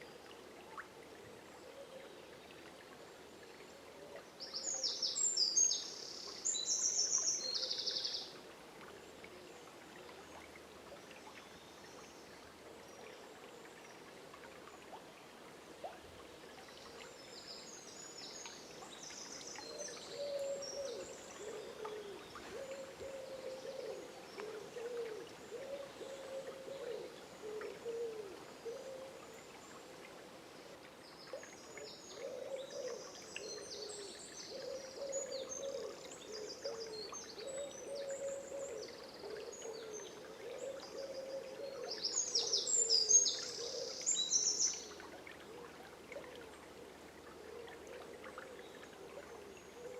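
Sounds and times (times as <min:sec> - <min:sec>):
flowing water: 0:00.0 - 0:49.9.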